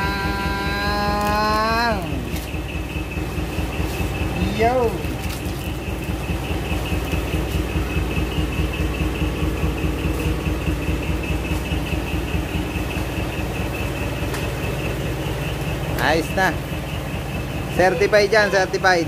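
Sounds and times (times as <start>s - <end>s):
pulsing high tone: 0.0s - 19.0s
truck engine idling: 0.0s - 19.0s.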